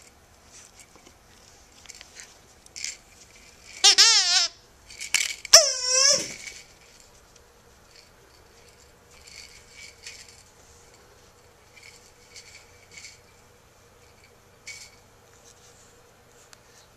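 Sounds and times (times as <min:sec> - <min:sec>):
steady low hum: 0:00.0 - 0:03.9, 0:04.5 - 0:16.9.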